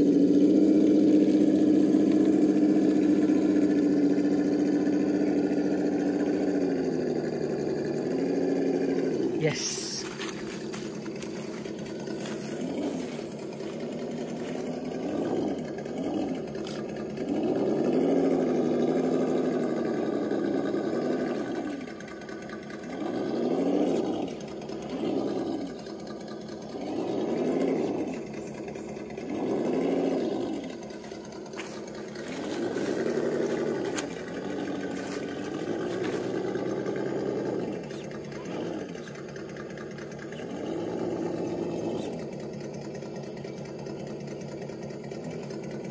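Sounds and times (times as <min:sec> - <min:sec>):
electric motor whining: 0:00.0 - 0:45.9.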